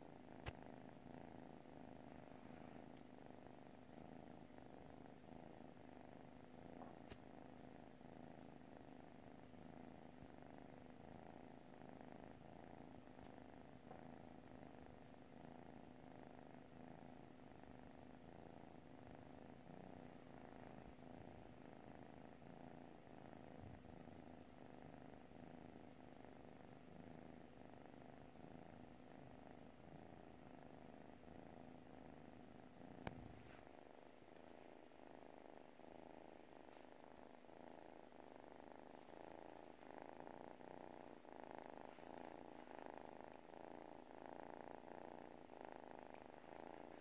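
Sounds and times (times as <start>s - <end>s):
kitten purring: 0.0s - 47.0s.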